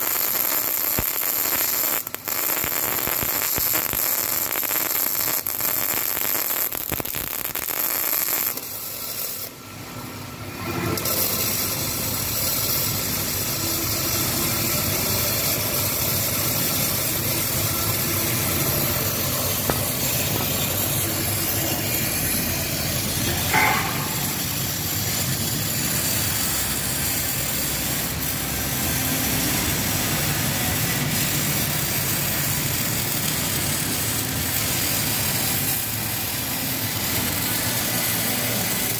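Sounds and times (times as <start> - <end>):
welding arc crackling: 0.0 - 38.9
machine hum: 0.1 - 31.8.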